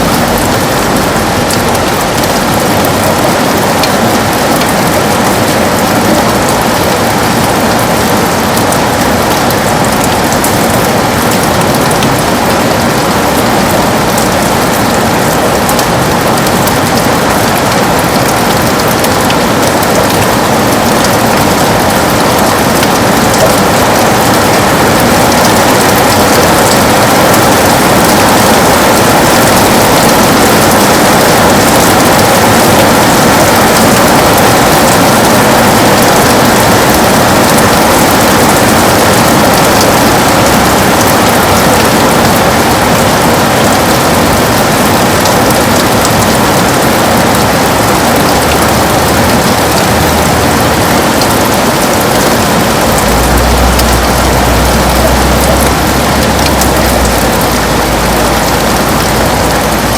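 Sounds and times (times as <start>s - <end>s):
heavy rain on a window: 0.0s - 59.9s.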